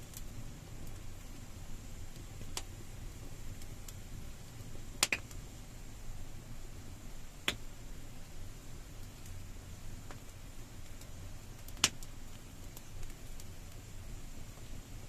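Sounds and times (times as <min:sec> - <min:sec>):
wood campfire crackling: 0:00.0 - 0:15.0.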